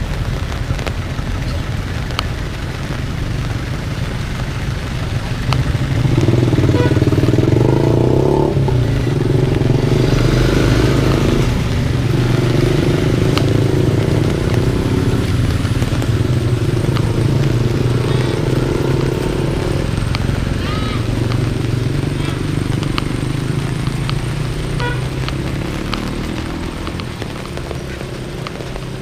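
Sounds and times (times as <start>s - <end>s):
motorcycle engine running: 4.0s - 29.0s.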